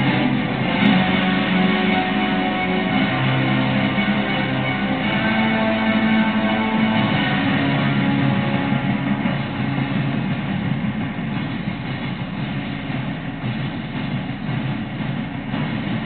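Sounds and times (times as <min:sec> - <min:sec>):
stadium crowd din: 0:00.0 - 0:16.0.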